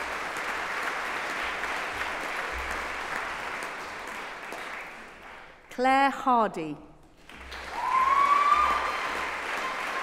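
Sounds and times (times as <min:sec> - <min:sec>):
audience clapping: 0:00.0 - 0:05.8, 0:07.1 - 0:10.0.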